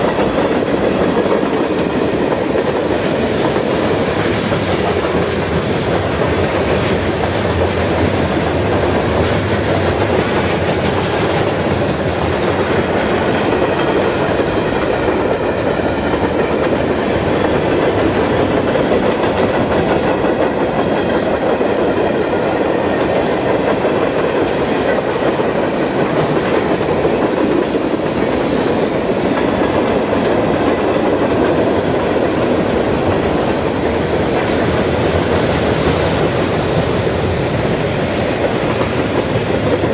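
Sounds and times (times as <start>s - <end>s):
train wheels on rail: 0.0s - 39.9s.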